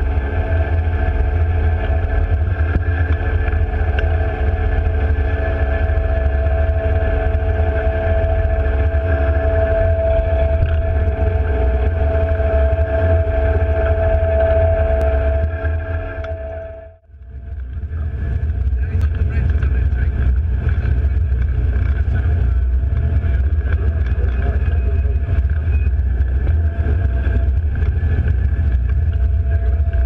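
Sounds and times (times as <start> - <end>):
diesel engines rumbling: 0.0 - 30.0.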